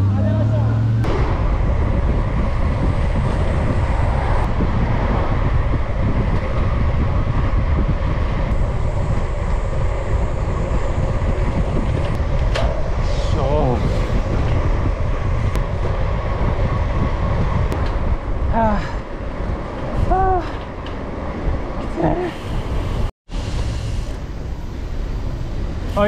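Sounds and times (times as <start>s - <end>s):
wind buffeting microphone: 0.9s - 26.0s.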